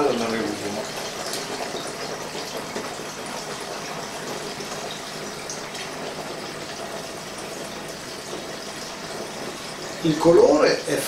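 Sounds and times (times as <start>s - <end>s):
liquid pouring and trickling: 0.0s - 11.0s.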